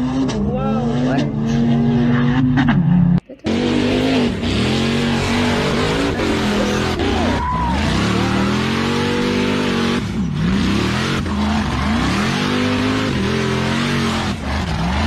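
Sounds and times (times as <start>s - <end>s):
truck engine revving: 0.0s - 15.0s
tyres churning dirt: 0.0s - 15.0s.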